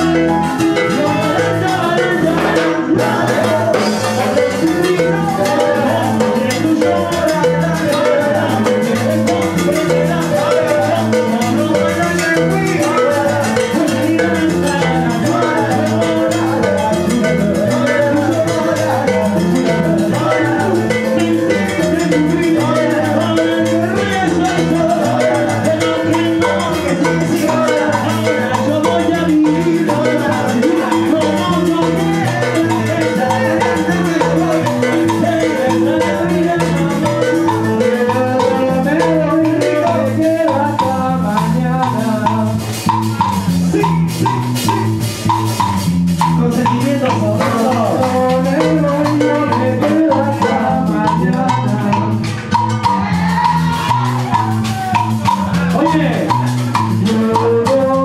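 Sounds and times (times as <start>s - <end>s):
live salsa band: 0.0s - 58.0s.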